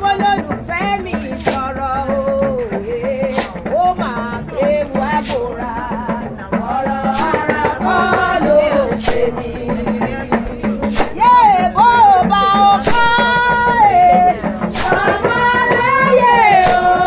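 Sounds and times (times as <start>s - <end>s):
women singing together: 0.0s - 17.0s.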